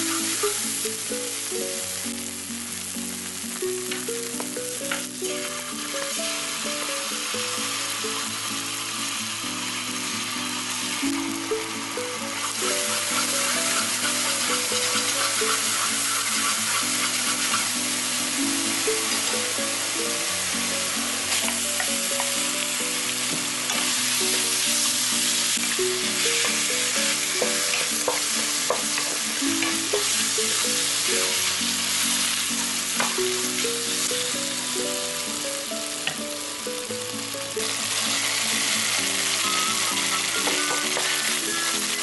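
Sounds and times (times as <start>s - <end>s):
background music: 0.0s - 42.0s
meat sizzling in a wok: 0.0s - 42.0s.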